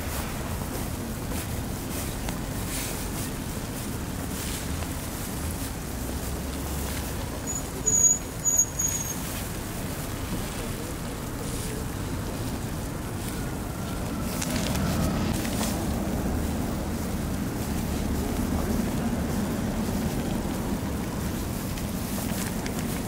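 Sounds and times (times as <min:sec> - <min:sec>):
car approaching: 0:00.0 - 0:23.0
low traffic rumble: 0:00.0 - 0:23.0.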